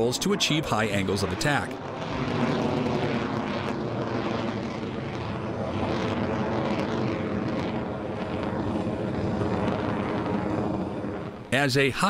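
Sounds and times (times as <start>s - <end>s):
jet engine noise overhead: 0.0s - 12.0s.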